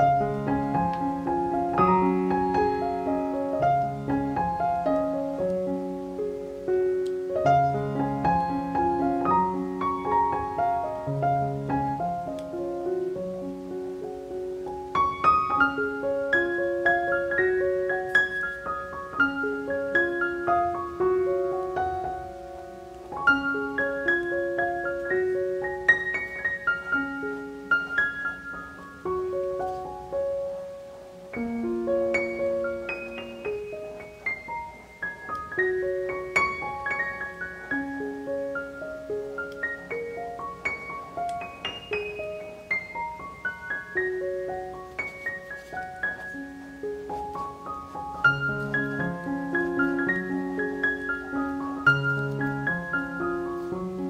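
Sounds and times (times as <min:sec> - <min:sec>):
piano melody: 0:00.0 - 0:54.0.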